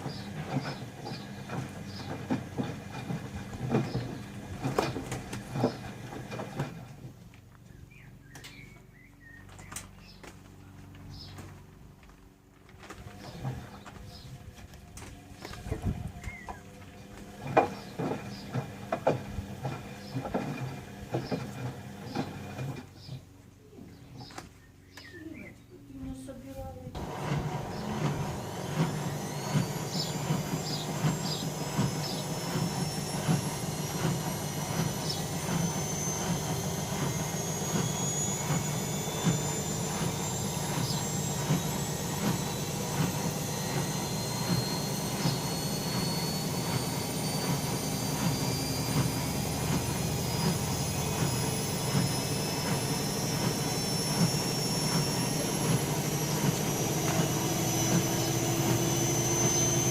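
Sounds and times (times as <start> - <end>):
washing machine spinning up: 0.0 - 7.2, 12.8 - 23.4, 26.9 - 59.9.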